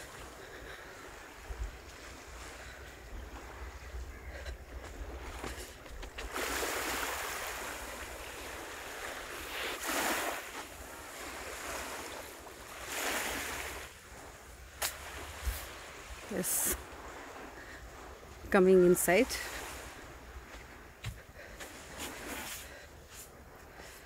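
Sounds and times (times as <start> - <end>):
small waves washing ashore: 0.0 - 24.0.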